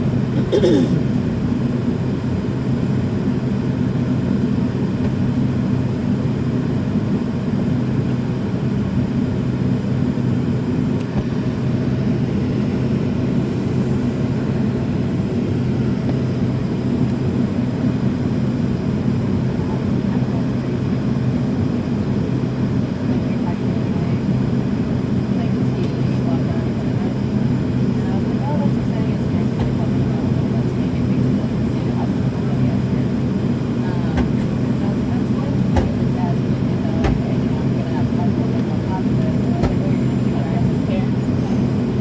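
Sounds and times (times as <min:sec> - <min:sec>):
airliner cabin ventilation drone: 0:00.0 - 0:42.0.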